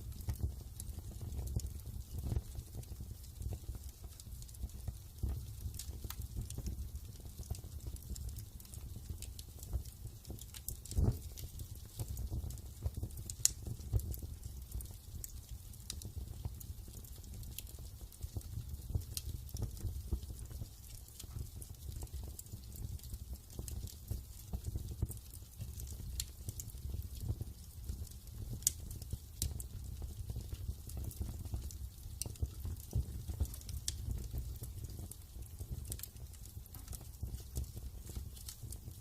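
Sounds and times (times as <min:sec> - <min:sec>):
fire popping and snapping: 0:00.0 - 0:39.0
wood fire crackling: 0:00.0 - 0:39.0.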